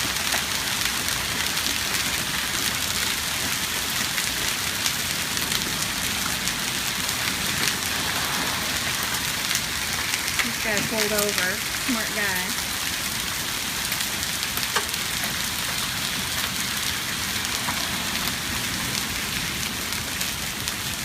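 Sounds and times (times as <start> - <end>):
hail pattering on hard surfaces: 0.0 - 21.0.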